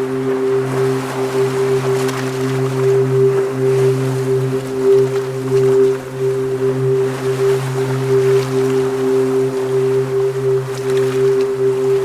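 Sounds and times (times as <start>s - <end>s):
ambient drone music: 0.0s - 12.0s.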